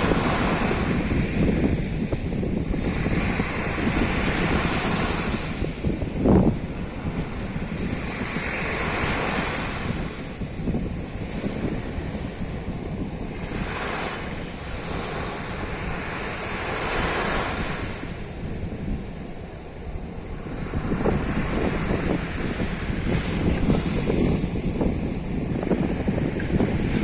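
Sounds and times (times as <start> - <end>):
ocean waves breaking on beach: 0.0 - 27.0
wind buffeting microphone: 0.0 - 27.0.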